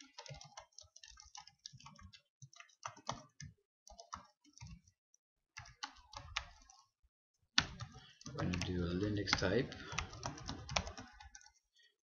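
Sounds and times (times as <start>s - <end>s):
computer keyboard typing: 0.0s - 7.0s, 7.6s - 12.0s.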